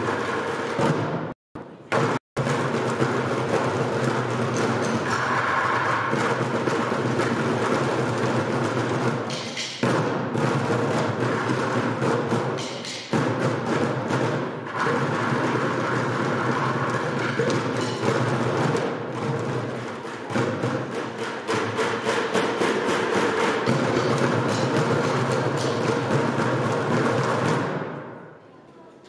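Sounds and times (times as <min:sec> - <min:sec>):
drumming on plastic buckets: 0:00.0 - 0:28.2
loud bucket drum hits: 0:00.0 - 0:28.2.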